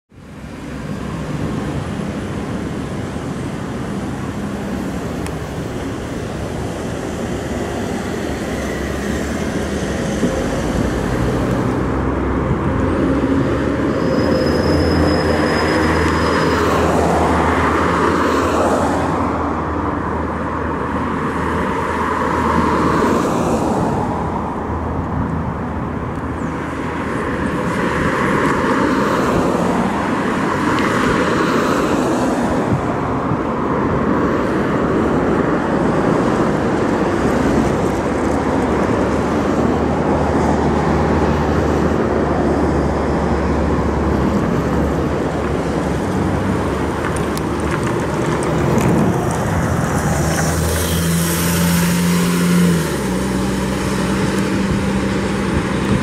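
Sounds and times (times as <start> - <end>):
vehicles passing: 0.1 - 56.0.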